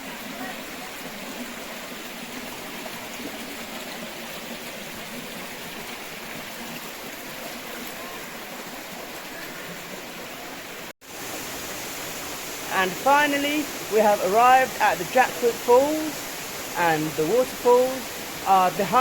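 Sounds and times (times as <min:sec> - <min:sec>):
river rushing and gurgling: 0:00.0 - 0:19.0.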